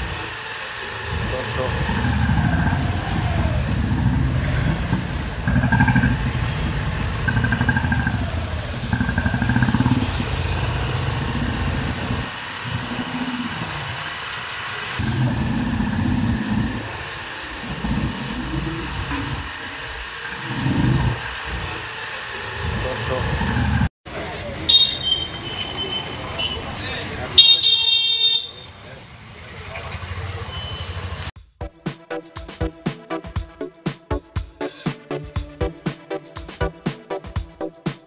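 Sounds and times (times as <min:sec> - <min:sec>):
motorcycle engines revving: 0:00.0 - 0:31.3.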